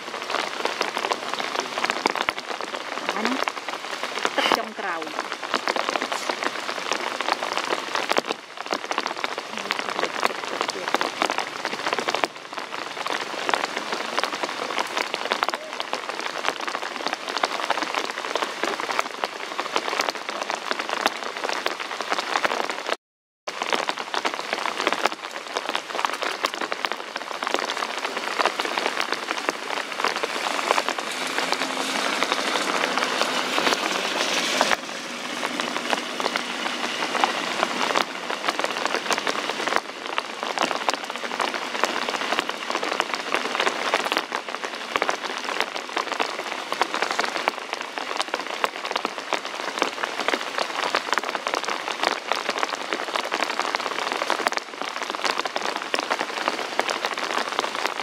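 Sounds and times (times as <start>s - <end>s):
rain on wet ground: 0.0s - 58.0s.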